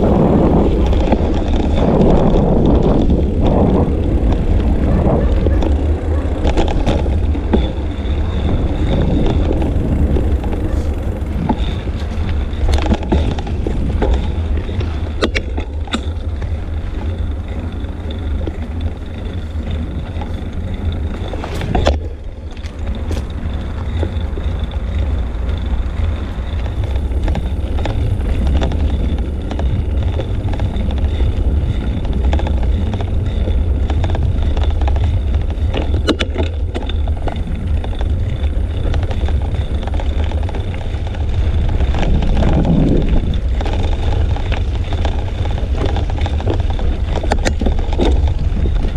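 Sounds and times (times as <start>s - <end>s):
road noise: 0.0s - 48.9s
wind noise on microphone: 0.0s - 48.9s.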